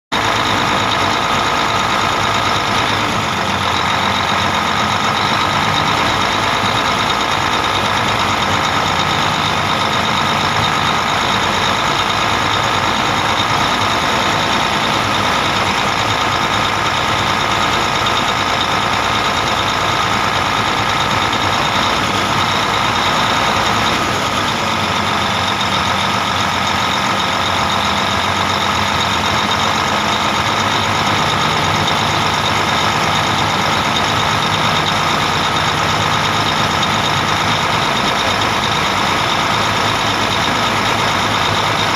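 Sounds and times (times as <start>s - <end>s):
diesel engine running steadily: 0.1s - 41.9s.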